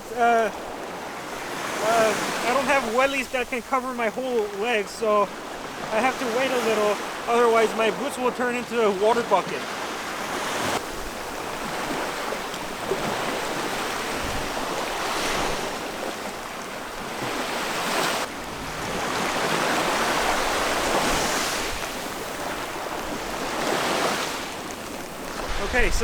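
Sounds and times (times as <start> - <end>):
sea surf washing on shore: 0.0 - 26.0.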